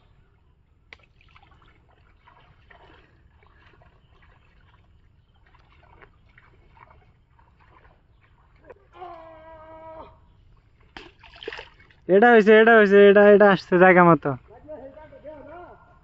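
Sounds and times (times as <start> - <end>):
wading through shallow water: 0.0 - 12.9.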